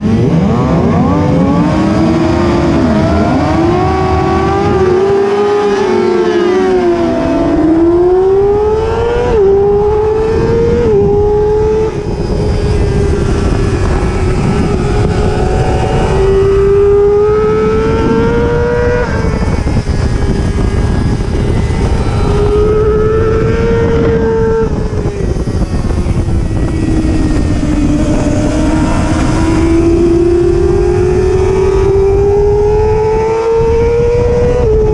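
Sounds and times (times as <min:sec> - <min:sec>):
motorcycle engine at high revs: 0:00.0 - 0:34.9
wind noise: 0:00.0 - 0:34.9.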